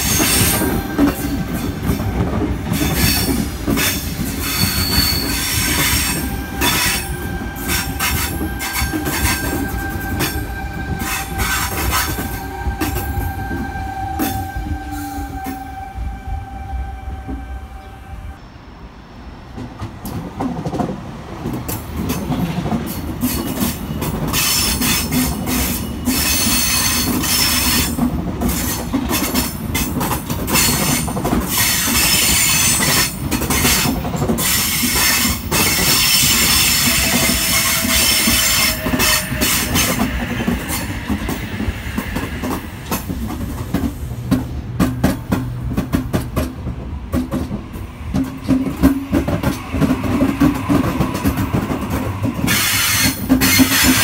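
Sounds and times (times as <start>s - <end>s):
train wheels screeching: 0.0s - 18.4s, 22.0s - 44.4s, 47.2s - 54.0s
train wheels rumbling: 0.0s - 54.0s.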